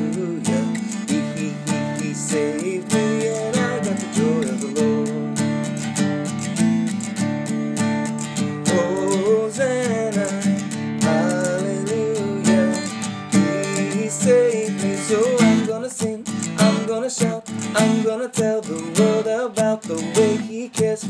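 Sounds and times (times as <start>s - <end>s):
person singing: 0.0s - 5.8s, 8.4s - 21.0s
strummed acoustic guitar: 0.0s - 21.0s.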